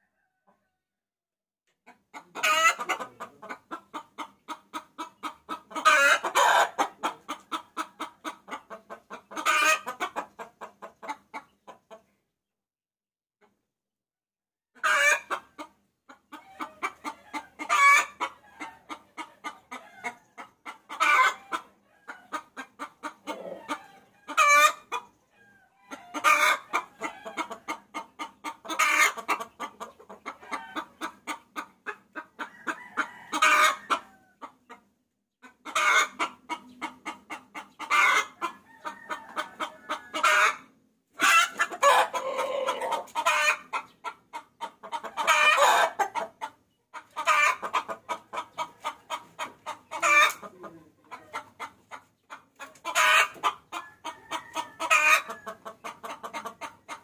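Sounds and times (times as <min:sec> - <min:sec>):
hen cackling: 0:01.8 - 0:11.4, 0:14.8 - 0:34.8, 0:35.4 - 0:57.0.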